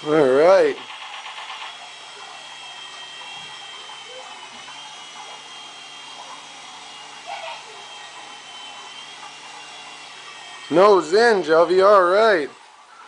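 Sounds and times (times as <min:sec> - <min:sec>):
helicopter motor and rotors whining: 0:00.0 - 0:12.6.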